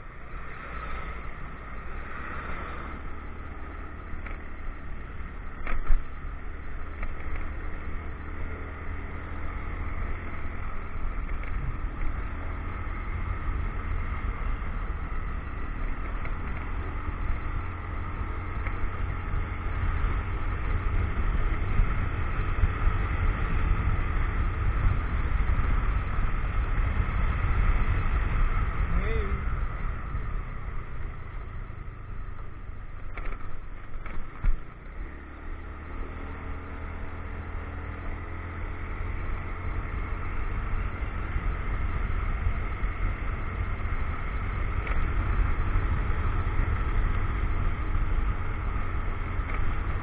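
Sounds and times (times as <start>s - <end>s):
motorcycle engine drone: 0.0s - 50.0s
wind rumble: 0.0s - 50.0s.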